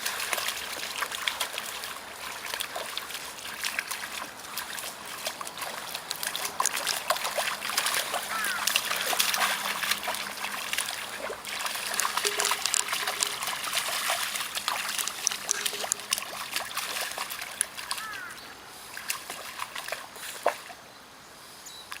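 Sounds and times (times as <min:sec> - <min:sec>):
river water splashing: 0:00.0 - 0:21.3.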